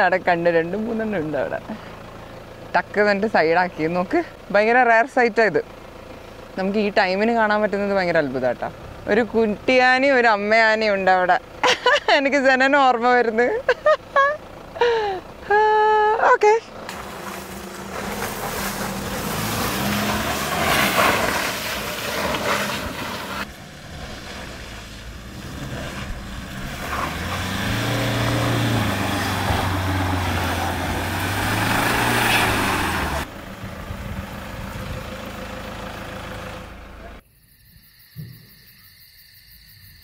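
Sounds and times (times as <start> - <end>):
car engine running: 0.0 - 37.2
tyre and road noise: 0.0 - 37.2.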